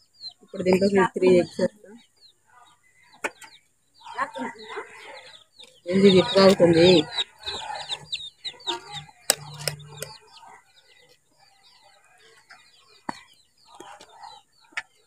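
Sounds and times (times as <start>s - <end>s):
chickens clucking and peeping: 0.0s - 15.0s.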